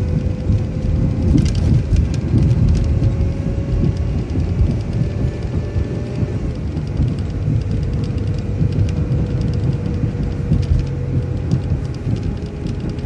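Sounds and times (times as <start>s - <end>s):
bus engine and road rumble: 0.0s - 13.0s
light rattles: 0.0s - 13.0s.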